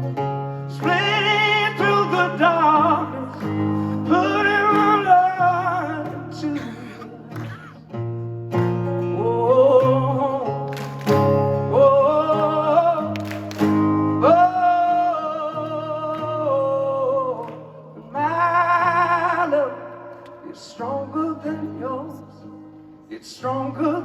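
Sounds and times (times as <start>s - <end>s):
bass and guitar chords: 0.0s - 24.0s.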